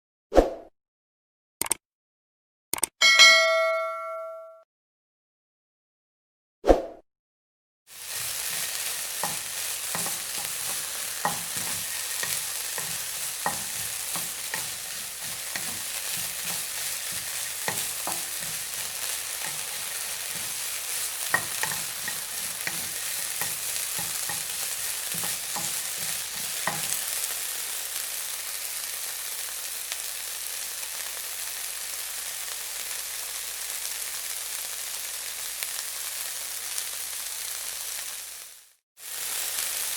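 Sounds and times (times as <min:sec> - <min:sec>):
food sizzling in a frying pan: 0:07.9 - 0:39.9.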